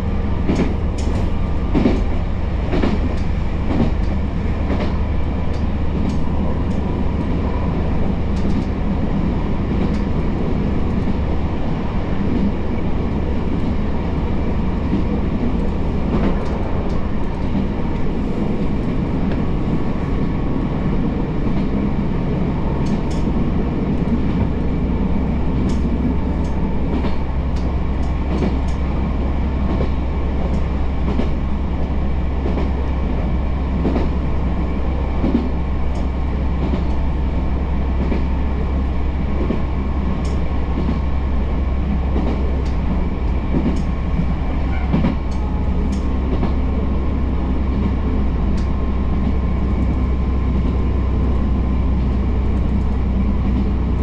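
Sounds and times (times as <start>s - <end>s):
wheel and rail noise: 0.0s - 54.0s.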